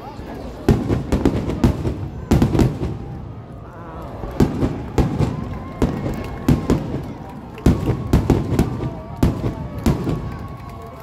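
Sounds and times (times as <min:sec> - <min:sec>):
fireworks bursting with sharp bangs: 0:00.5 - 0:03.4, 0:04.2 - 0:10.8.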